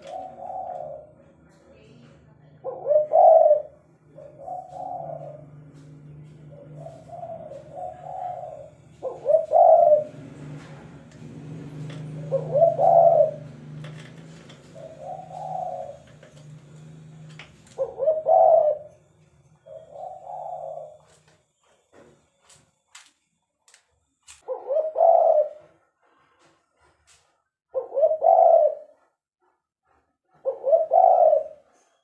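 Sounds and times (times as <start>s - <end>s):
doves cooing: 0.0s - 1.6s, 2.6s - 21.5s, 24.4s - 26.2s, 27.7s - 32.0s.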